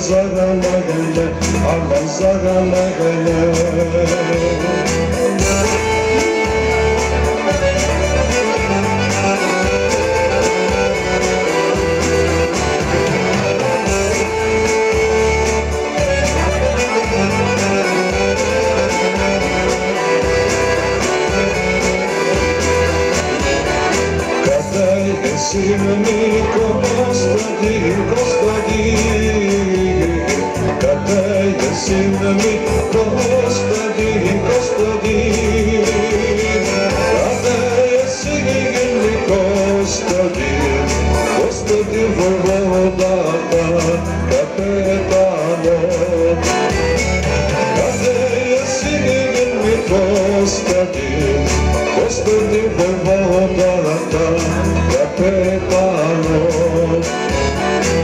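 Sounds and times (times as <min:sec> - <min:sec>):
instrumental backing track: 0:00.0 - 0:58.0
man singing into a microphone: 0:00.0 - 0:58.0.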